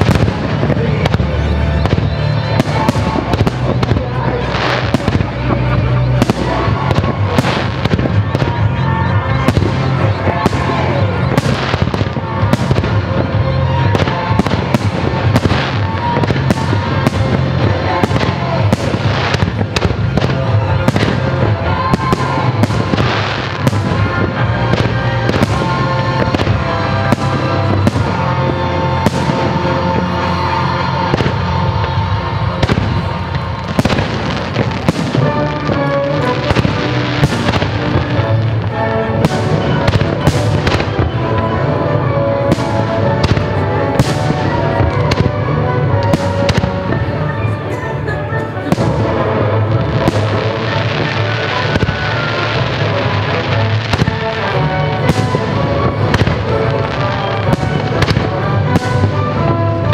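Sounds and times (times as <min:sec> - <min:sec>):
music with sustained tones and bass: 0:01.3 - 0:59.9.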